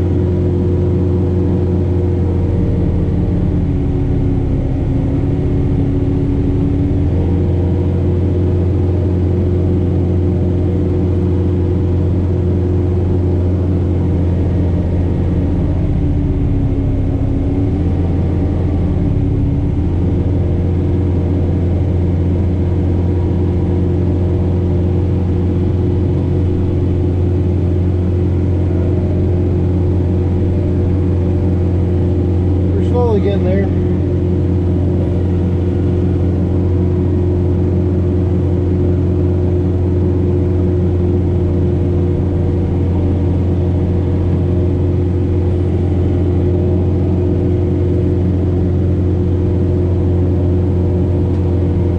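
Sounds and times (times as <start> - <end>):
snowblower through wet snow: 0.0 - 51.9
tractor diesel engine under load: 0.0 - 51.9.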